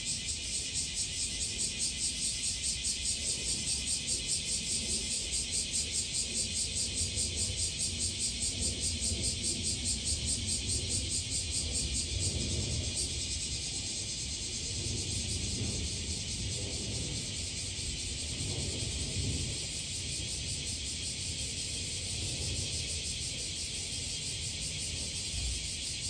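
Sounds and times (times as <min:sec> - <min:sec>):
cicada chorus buzzing: 0:00.0 - 0:26.0.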